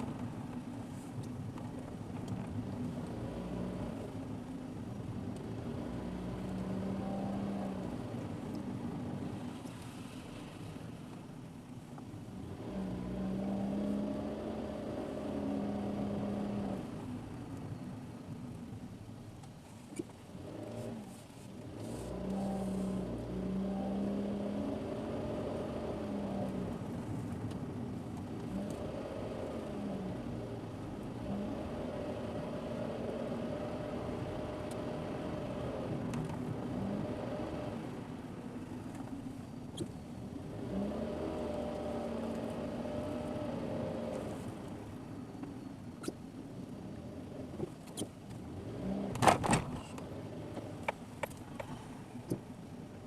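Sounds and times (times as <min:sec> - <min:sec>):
car engine running: 0:00.0 - 0:53.0
tyre and road noise: 0:00.0 - 0:53.0.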